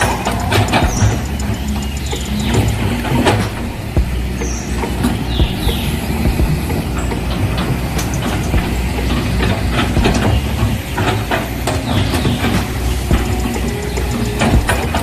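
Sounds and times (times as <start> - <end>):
sharp clicks and rattles: 0.0 - 15.0.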